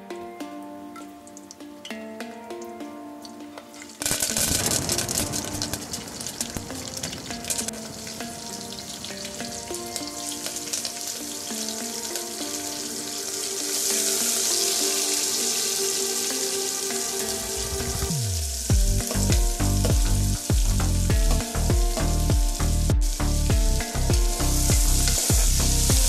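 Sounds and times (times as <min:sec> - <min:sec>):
background music with melody: 0:00.0 - 0:26.0
hot oil sizzling: 0:03.8 - 0:26.0.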